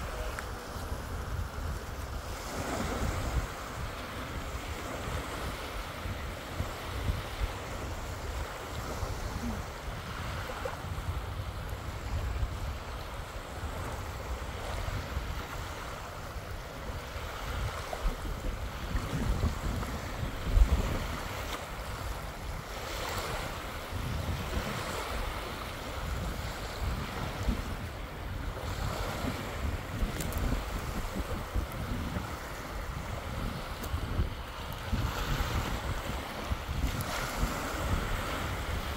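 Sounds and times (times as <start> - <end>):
small waves washing up beach: 0.0 - 38.9
wind gusting on microphone: 0.0 - 38.9.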